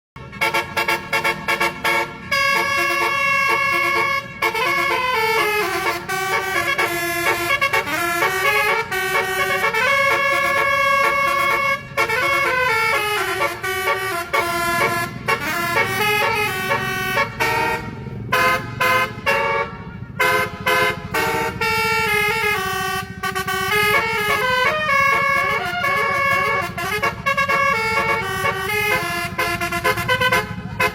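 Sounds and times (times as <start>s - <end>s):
low engine rumble: 0.2s - 30.9s
musical bus air horn tune: 0.2s - 30.9s.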